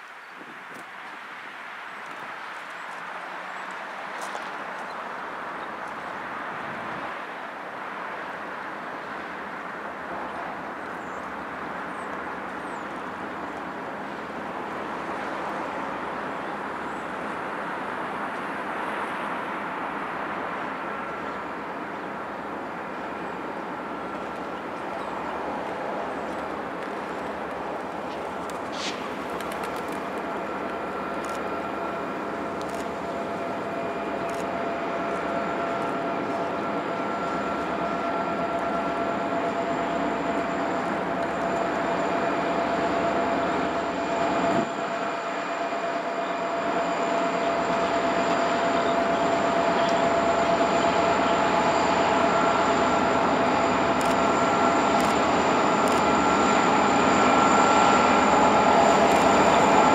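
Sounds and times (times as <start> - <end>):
freight train passing: 0.0 - 59.9
steady high whine: 2.7 - 59.9.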